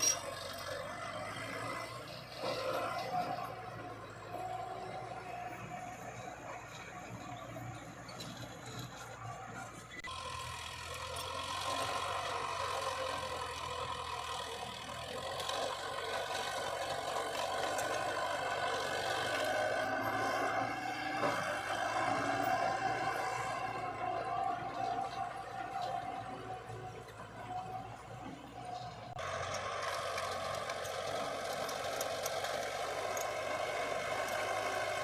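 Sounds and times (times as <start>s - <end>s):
construction vehicle engine: 0.0s - 35.0s.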